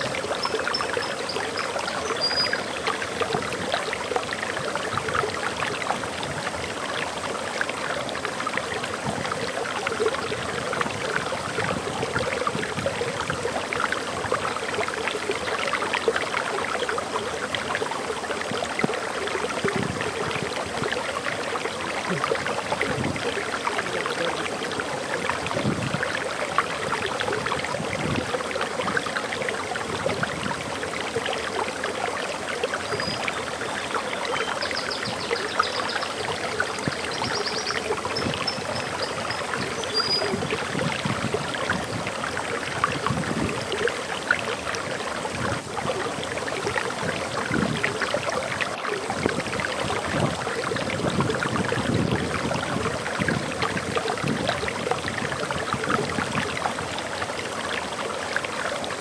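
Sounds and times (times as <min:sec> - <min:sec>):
water splashing over waterfall: 0:00.0 - 0:59.0.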